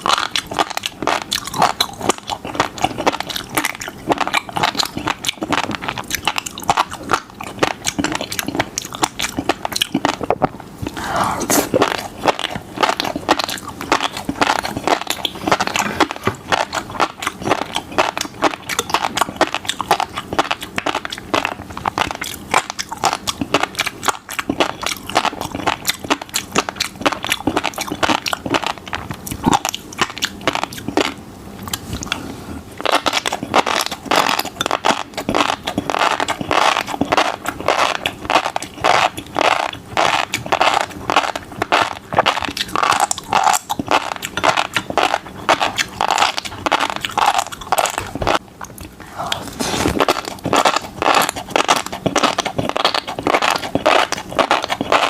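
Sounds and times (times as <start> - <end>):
chewing fish roe: 0.0 - 55.0.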